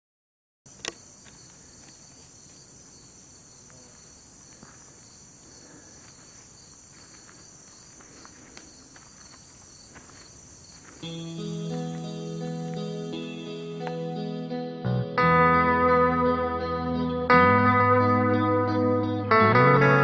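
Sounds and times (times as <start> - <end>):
crickets chirping: 0.7 - 20.0.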